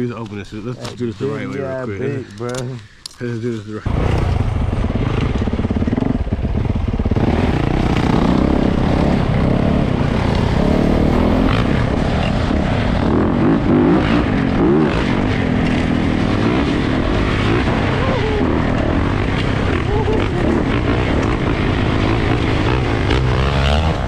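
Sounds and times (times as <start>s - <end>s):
dirt bike engine revving: 3.8s - 24.0s.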